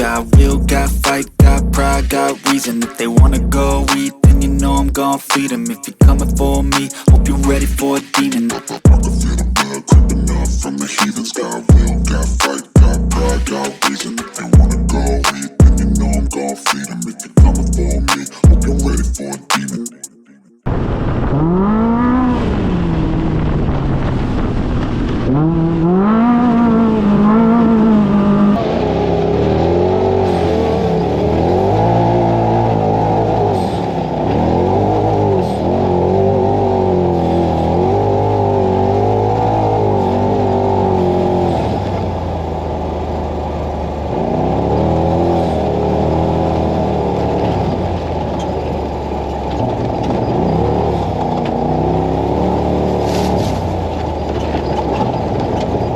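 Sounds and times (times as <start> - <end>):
utility vehicle engine revving: 0.0 - 19.3, 21.1 - 55.9.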